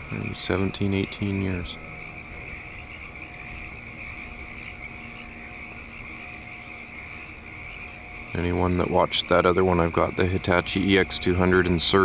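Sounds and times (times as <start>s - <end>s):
frogs calling in chorus: 0.0s - 12.0s.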